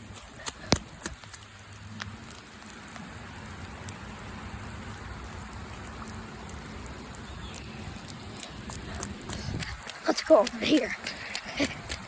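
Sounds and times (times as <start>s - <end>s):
rain pattering: 0.0s - 12.0s
raindrop clicks: 0.1s - 12.0s.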